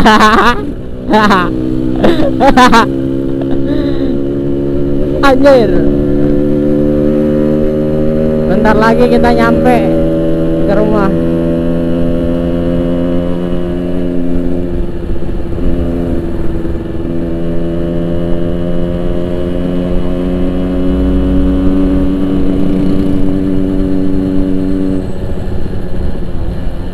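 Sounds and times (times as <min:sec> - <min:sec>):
motorcycle engine cruising: 0:00.0 - 0:26.9.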